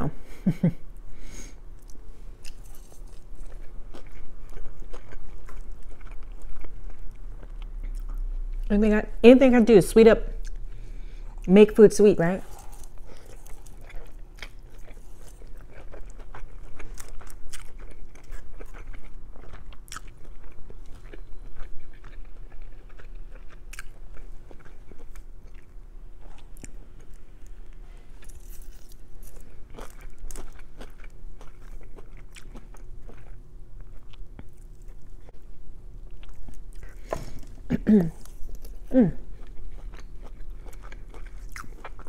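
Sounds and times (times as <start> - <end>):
faint steady hum: 0.0 - 42.0
person chewing noodles: 1.2 - 8.7, 12.4 - 42.0.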